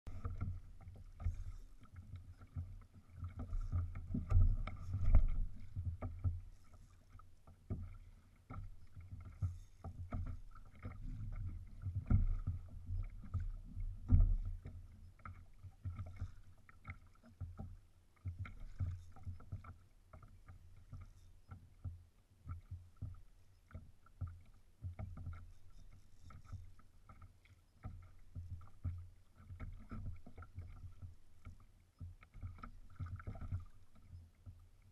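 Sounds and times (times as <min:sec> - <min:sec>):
water slapping against hull: 0:00.1 - 0:34.9.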